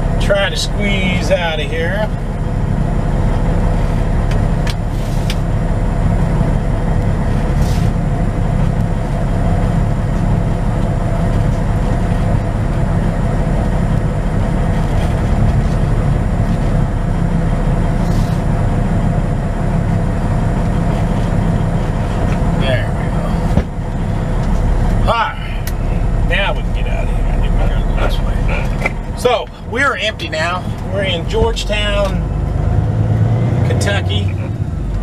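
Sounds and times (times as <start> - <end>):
diesel truck engine drone: 0.0 - 35.0.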